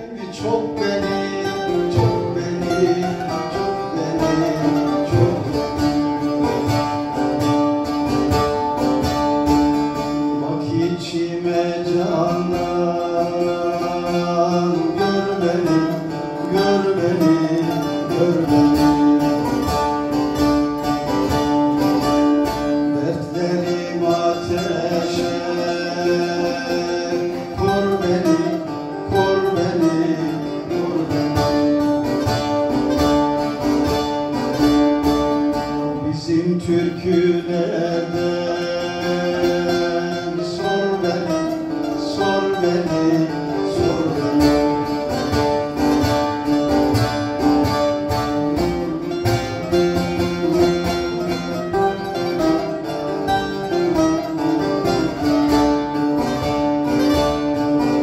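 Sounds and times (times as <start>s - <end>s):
plucked long-necked lute melody: 0.0s - 58.0s.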